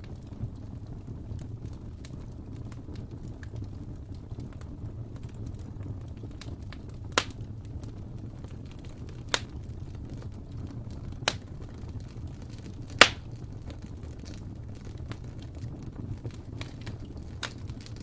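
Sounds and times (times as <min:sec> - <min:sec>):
burning wood popping: 0:00.0 - 0:18.0
low fire rumble: 0:00.0 - 0:18.0.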